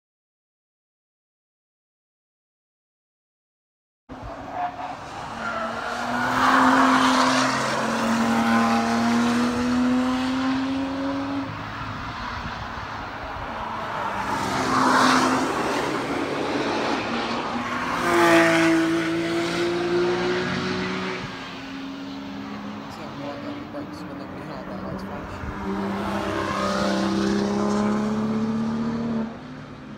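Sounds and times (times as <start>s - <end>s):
sports cars driving past: 4.1s - 29.9s.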